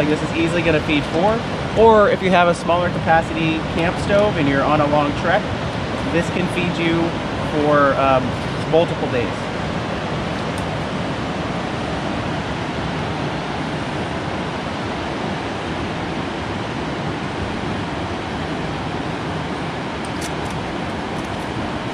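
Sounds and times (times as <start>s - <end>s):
ocean surf: 0.0s - 21.9s
wind: 0.0s - 21.9s.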